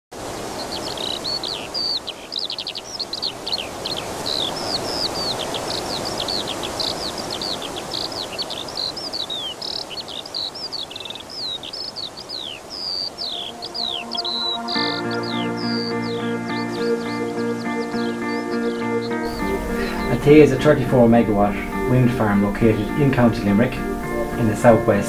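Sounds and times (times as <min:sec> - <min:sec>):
songbird singing: 0:00.2 - 0:25.0.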